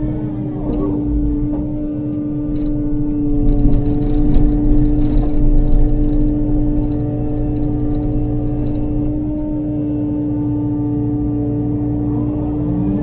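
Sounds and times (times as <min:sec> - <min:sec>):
excavator engine and hydraulics whine: 0:00.0 - 0:13.0.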